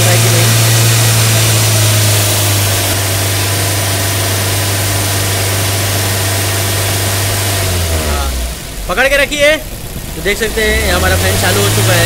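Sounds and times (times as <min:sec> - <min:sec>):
car engine running at raised revs: 0:00.0 - 0:12.0.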